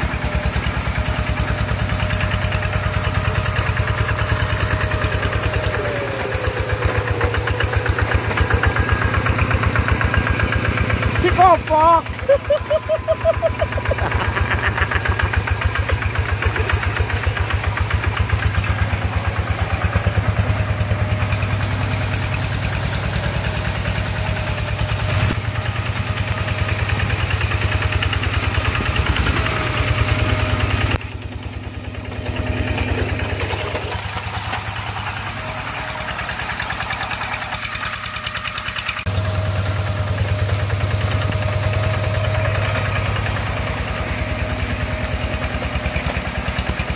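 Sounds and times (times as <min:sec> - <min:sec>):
diesel hand tractor engine running: 0:00.0 - 0:46.9.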